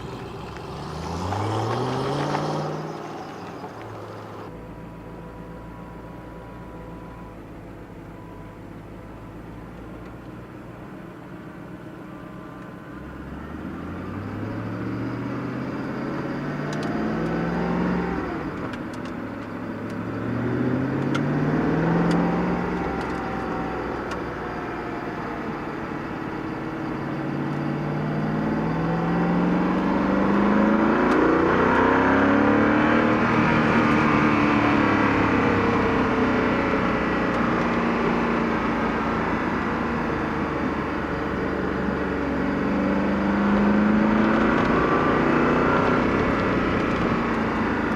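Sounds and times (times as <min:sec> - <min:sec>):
car engine revving: 0:00.0 - 0:08.0, 0:08.6 - 0:47.9.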